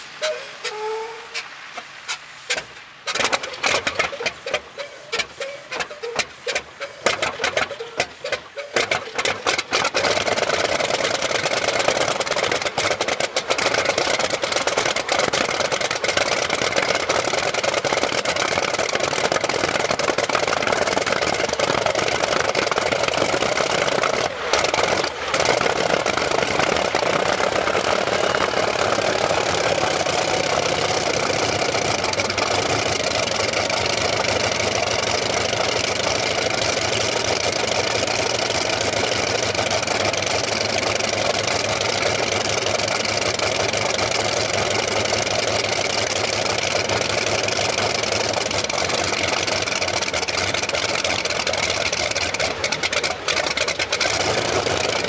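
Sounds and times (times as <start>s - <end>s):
radial piston engine starting: 2.5s - 55.0s.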